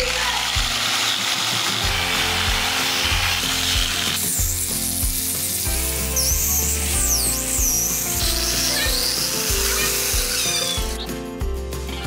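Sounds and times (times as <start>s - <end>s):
power tool hissing: 0.0s - 11.1s
background music with steady beat: 0.0s - 12.0s.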